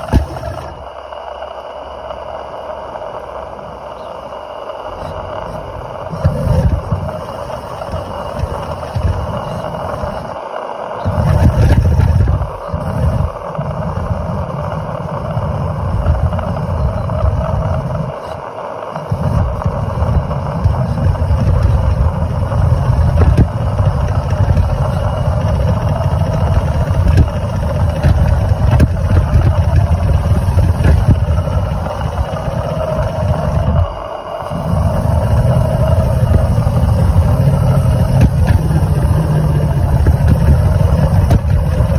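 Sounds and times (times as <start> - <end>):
steam wagon mechanical rumble: 0.0 - 41.9
light busy rattle: 3.2 - 41.9.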